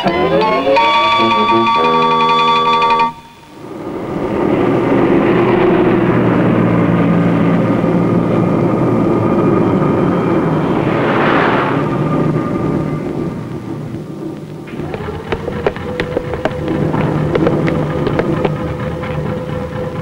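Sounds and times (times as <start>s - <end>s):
tram rumbling on rails: 0.0s - 20.0s.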